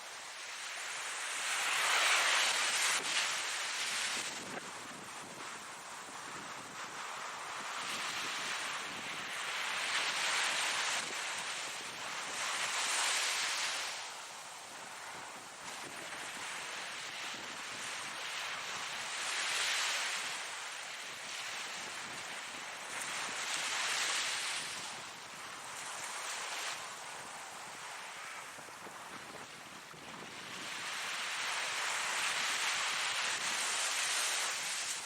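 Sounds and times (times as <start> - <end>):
hiss of surf: 0.0 - 35.0
ocean waves breaking on shore: 0.0 - 35.0.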